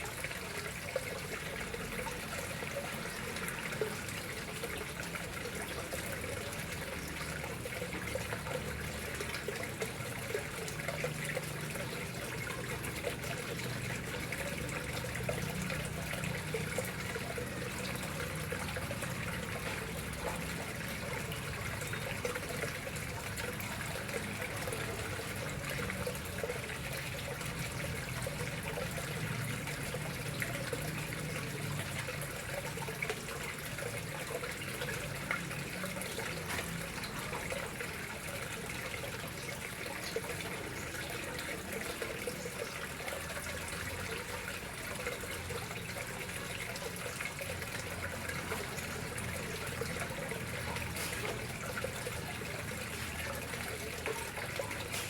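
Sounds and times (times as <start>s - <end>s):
water trickling into pond: 0.0s - 55.0s.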